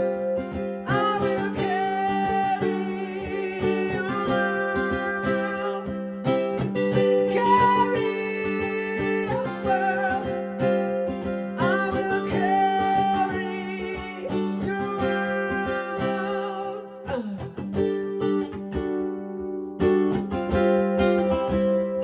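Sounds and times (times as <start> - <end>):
person singing: 0.0 - 18.0
ukulele strumming: 0.0 - 22.0.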